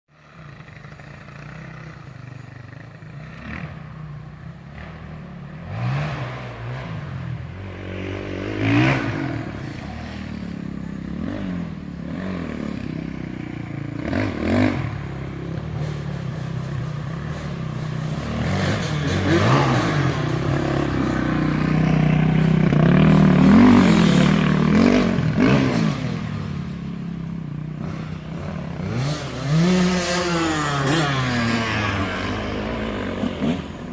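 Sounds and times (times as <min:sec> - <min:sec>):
dirt bike engine revving: 0:00.2 - 0:33.9.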